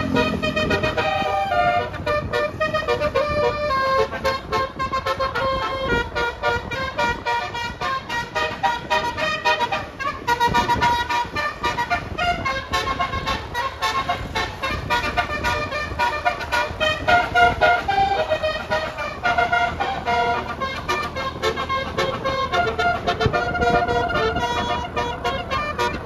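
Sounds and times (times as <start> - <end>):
multi-tone bus horn tune: 0.0 - 26.0.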